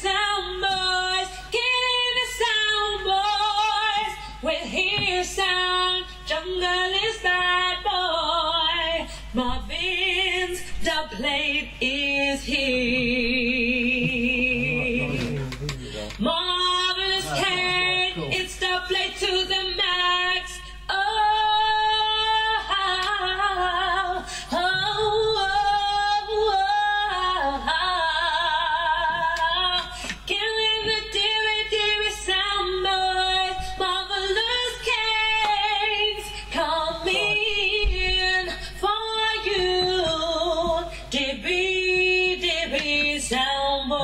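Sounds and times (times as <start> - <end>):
woman singing with vibrato: 0.0 - 15.4, 16.2 - 44.0.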